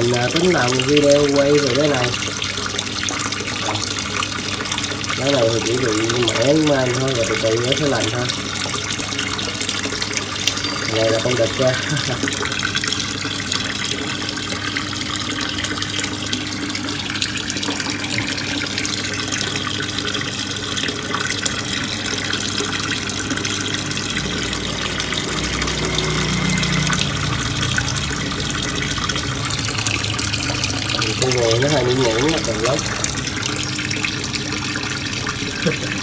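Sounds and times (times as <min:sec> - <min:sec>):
water pouring and splashing: 0:00.0 - 0:36.0.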